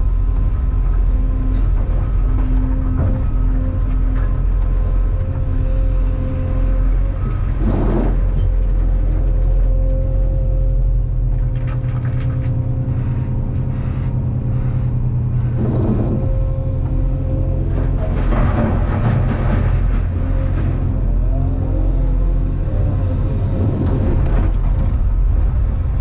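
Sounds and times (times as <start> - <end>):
hydraulic whine: 0.0 - 25.5
diesel engine under load: 0.0 - 26.0.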